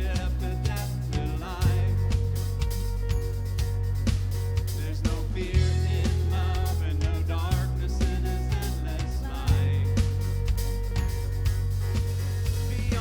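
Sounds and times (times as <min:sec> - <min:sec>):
bass line: 0:00.0 - 0:13.0
steady drum beat: 0:00.0 - 0:13.0.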